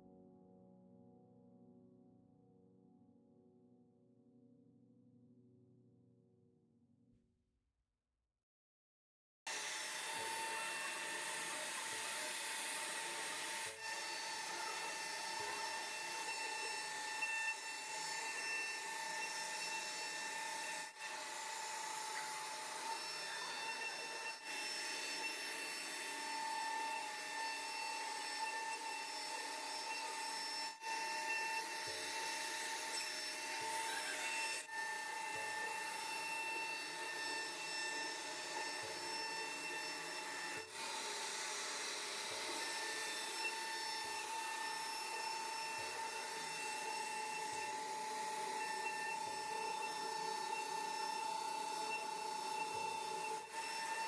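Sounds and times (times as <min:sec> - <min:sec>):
power tool whining: 0:09.5 - 0:54.0.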